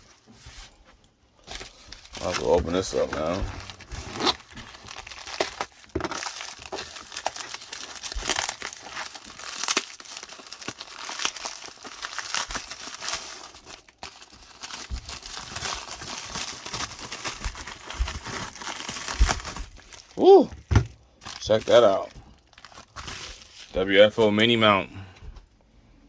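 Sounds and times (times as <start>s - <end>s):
packaging crinkling and tearing: 1.4s - 24.6s.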